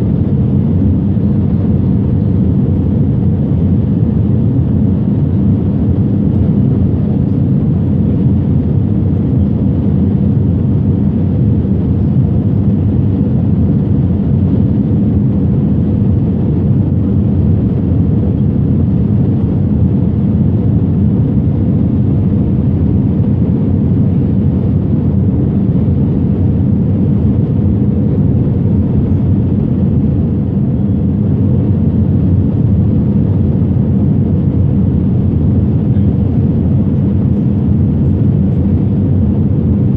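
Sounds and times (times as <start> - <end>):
airliner engines roaring in cabin: 0.0 - 39.9.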